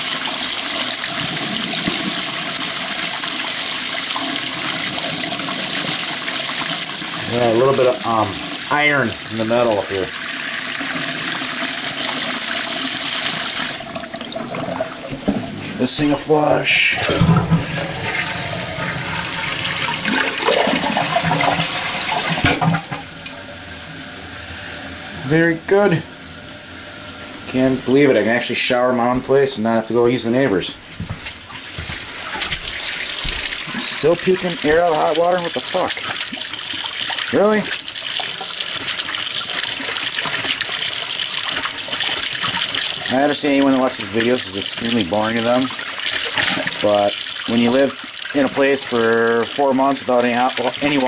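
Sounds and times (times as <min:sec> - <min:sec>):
water running from a faucet: 0:00.0 - 0:28.5, 0:31.0 - 0:51.0
toilet flushing: 0:00.0 - 0:51.0.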